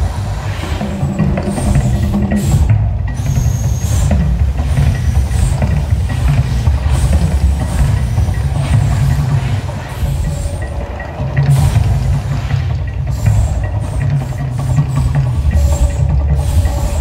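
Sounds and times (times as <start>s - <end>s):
deep continuous rumble: 0.0s - 17.0s
whooshing gas flame jets: 0.0s - 17.0s.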